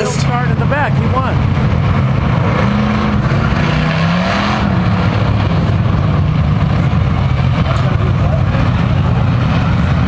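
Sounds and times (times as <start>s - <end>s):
race truck engines rumbling: 0.0s - 10.0s.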